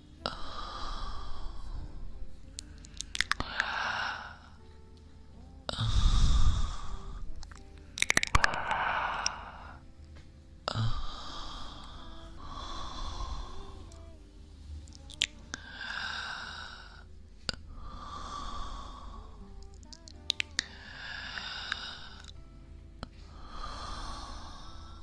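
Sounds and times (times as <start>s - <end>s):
man breathing deeply: 0.2s - 4.7s, 5.7s - 7.4s, 8.2s - 9.9s, 10.7s - 19.6s, 20.6s - 22.4s, 23.0s - 25.0s.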